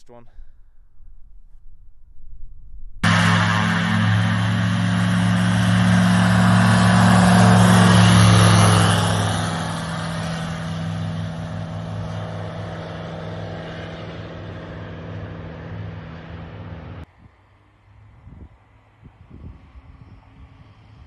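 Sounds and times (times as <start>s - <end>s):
light aircraft engine and propeller: 3.0s - 21.0s.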